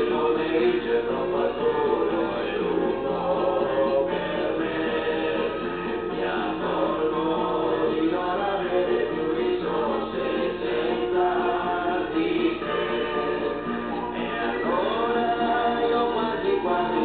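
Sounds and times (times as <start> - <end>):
several voices singing over music: 0.0 - 17.0.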